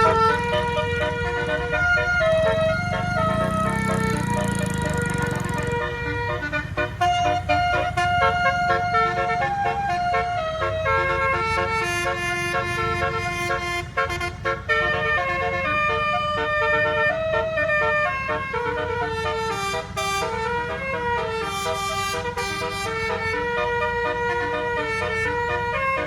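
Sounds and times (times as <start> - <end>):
multi-tone air horn melody: 0.0 - 26.0.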